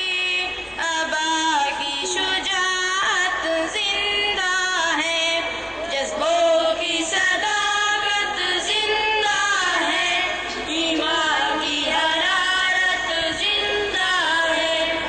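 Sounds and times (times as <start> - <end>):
boys singing together: 0.8 - 15.0.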